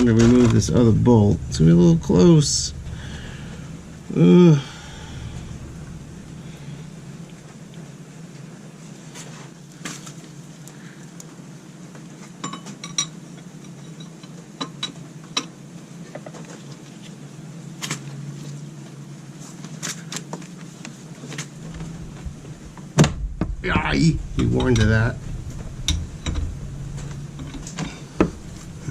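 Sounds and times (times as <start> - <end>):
steady low hum: 0.0 - 16.0, 20.7 - 28.9.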